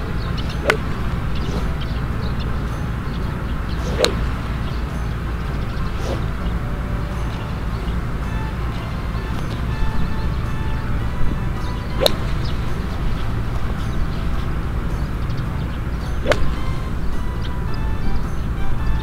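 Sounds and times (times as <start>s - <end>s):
low steady rumble: 0.0s - 19.0s
golf club striking balls: 0.3s - 2.1s, 2.8s - 14.6s, 15.3s - 18.2s.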